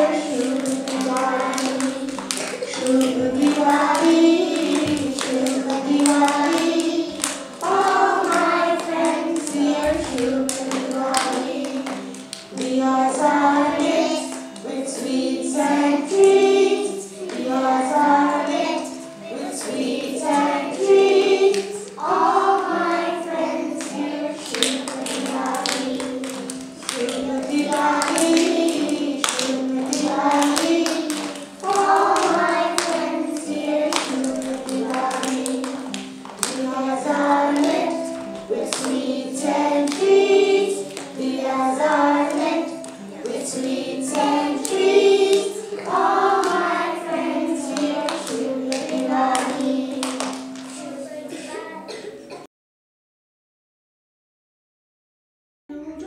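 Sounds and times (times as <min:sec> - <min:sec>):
musical accompaniment: 0:00.0 - 0:52.4
children's choir singing: 0:00.0 - 0:52.5.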